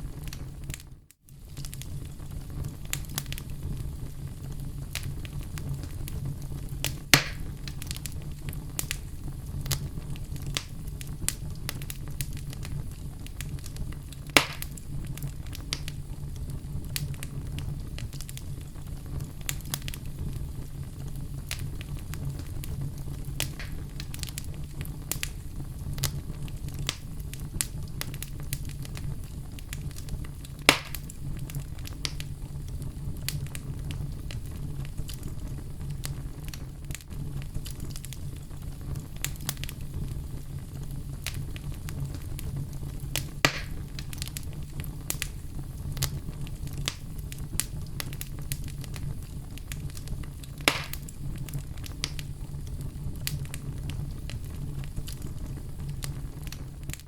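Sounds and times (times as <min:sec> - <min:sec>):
logs crackling in fireplace: 0:00.0 - 0:57.0
loud sharp fire pops: 0:04.7 - 0:57.0.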